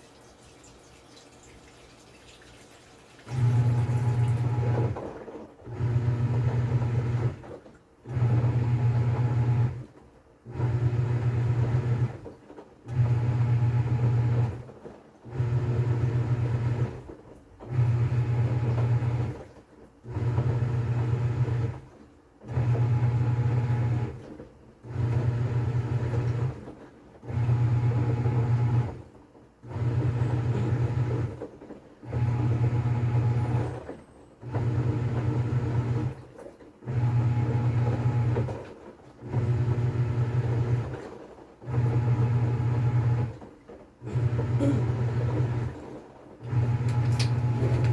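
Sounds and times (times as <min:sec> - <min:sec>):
washing machine motor humming: 0:00.0 - 0:47.9.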